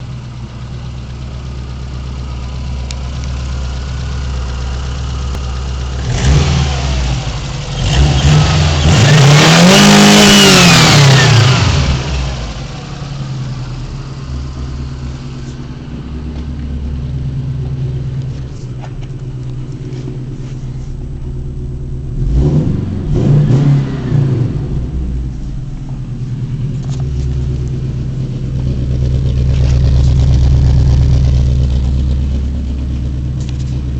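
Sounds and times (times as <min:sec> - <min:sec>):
car engine revving: 0:05.7 - 0:33.9.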